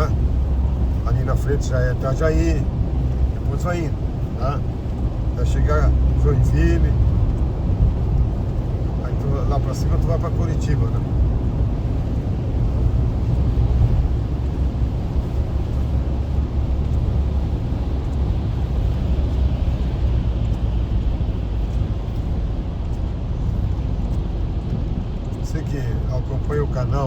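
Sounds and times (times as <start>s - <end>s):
car cabin engine and tyre rumble: 0.0s - 27.0s.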